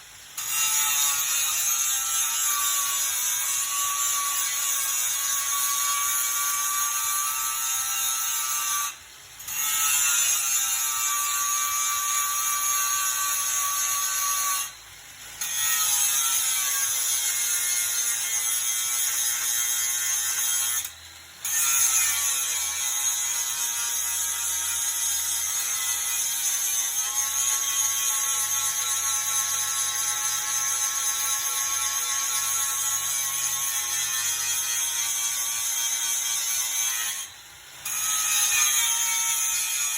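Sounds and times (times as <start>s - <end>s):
grinding hiss: 0.0s - 39.9s
power grinder whining: 0.2s - 39.9s.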